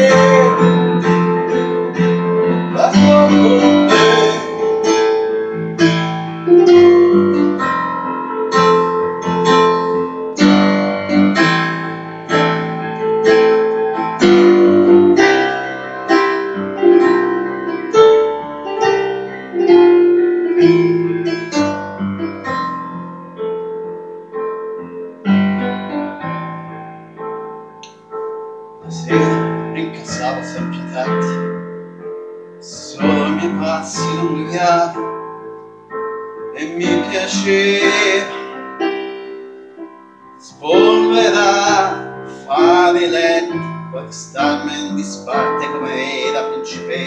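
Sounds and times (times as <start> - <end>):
digital piano playing: 0.0 - 47.0.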